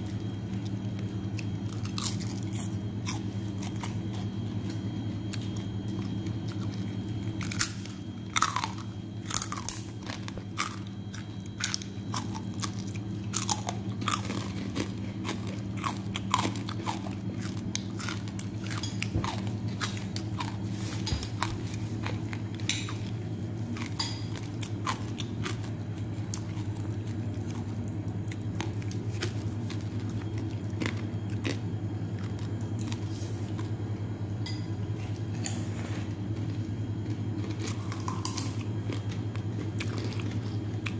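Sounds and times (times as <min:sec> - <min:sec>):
person chewing crunchy food: 0:00.0 - 0:40.9
steady low hum: 0:00.0 - 0:40.9.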